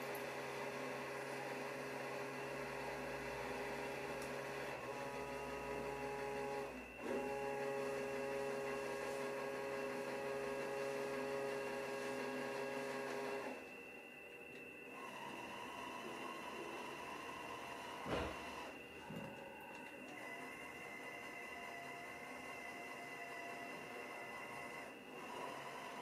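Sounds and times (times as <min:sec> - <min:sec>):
electric motors whining: 0:00.0 - 0:26.0.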